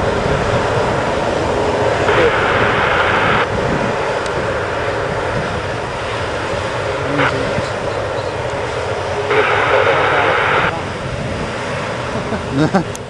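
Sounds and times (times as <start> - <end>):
jet engines at taxi power: 0.0 - 13.0.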